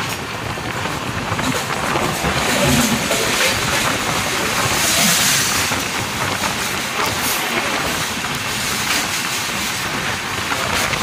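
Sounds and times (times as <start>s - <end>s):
oncoming train passing: 0.0s - 11.0s
wind rush and train wheel noise: 0.0s - 11.0s.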